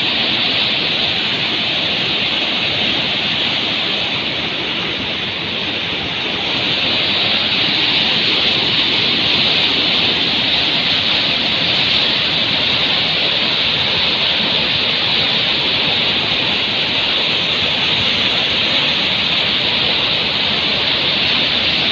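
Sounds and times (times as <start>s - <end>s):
loud rushing noise: 0.0s - 21.9s.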